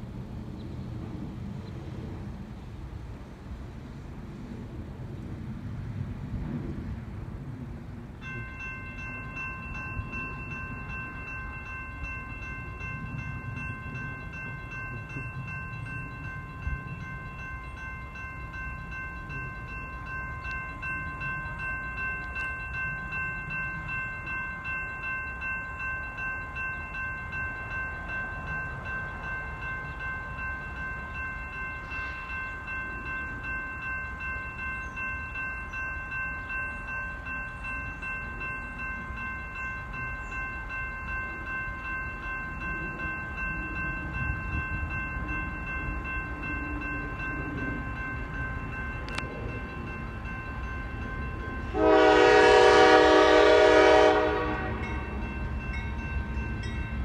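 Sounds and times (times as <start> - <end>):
railroad crossing bell ringing: 5.6 - 57.0.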